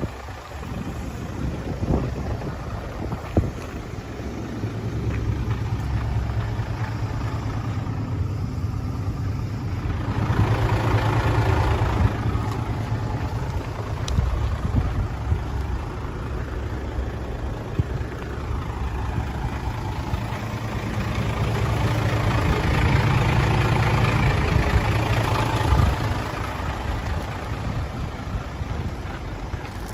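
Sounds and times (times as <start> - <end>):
diesel truck engine humming: 0.0 - 29.9.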